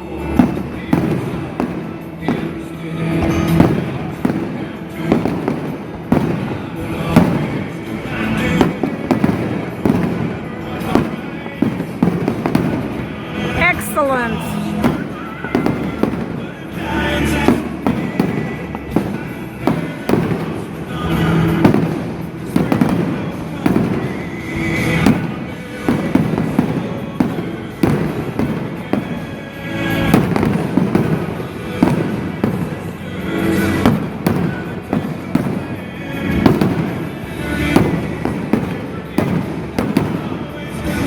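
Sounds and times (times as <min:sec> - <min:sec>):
fireworks bangs: 0:00.0 - 0:41.0
music playing: 0:00.0 - 0:41.0.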